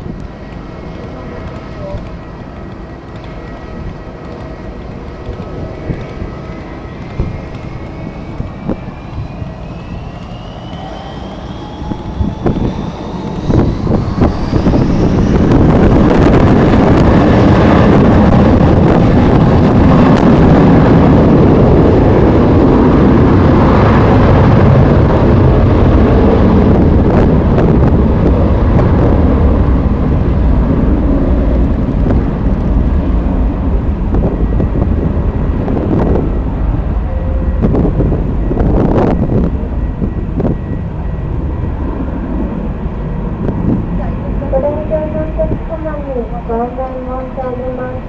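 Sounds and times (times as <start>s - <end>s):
jet engines running: 0.0s - 48.0s
wind buffeting microphone: 0.0s - 48.0s.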